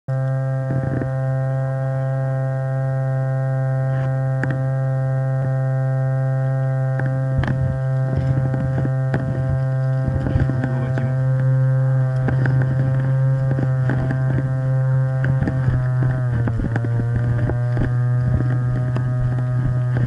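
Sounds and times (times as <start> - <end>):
loud electrical hum: 0.1 - 20.0.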